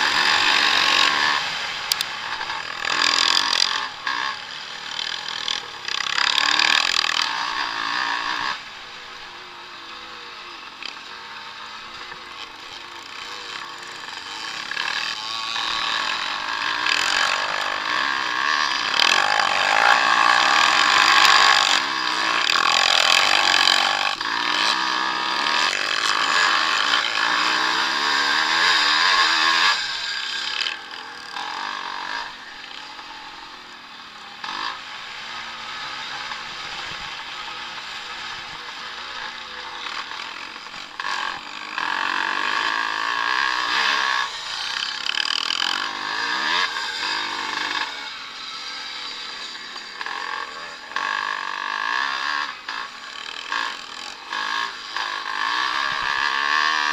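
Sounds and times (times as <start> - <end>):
motocross bikes racing: 0.0 - 56.9.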